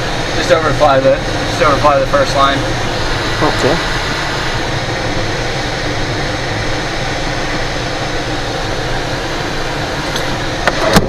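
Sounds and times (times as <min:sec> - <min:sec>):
rushing airflow in cockpit: 0:00.0 - 0:11.0.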